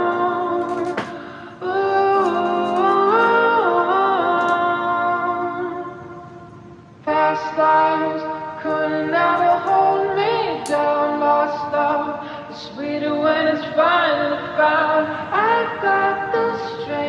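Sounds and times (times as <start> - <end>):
song with woman singing: 0.0 - 17.0.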